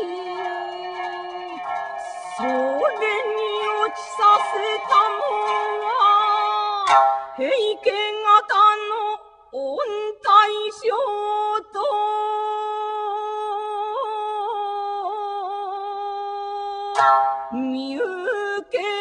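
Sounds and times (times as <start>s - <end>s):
person singing: 0.0s - 19.0s.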